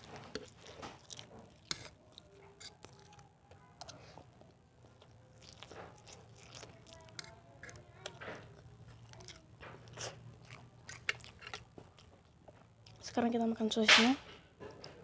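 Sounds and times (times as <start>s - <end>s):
chewing dry noodles: 0.0s - 13.4s, 14.6s - 15.0s.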